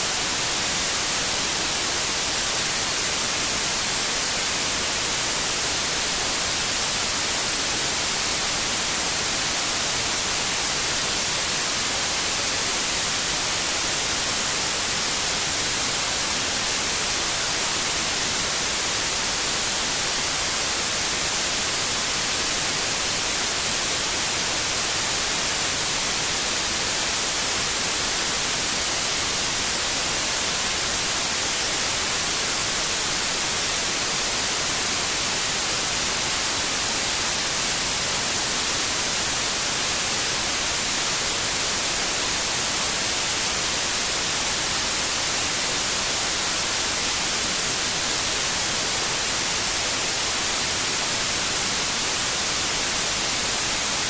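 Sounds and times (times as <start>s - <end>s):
electronic white noise hiss: 0.0s - 54.0s.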